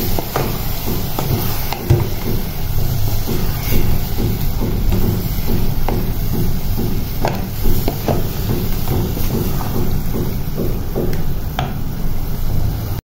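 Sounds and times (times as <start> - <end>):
wooden spatula scraping pot: 0.0 - 11.1
meat frying hiss: 0.0 - 13.0.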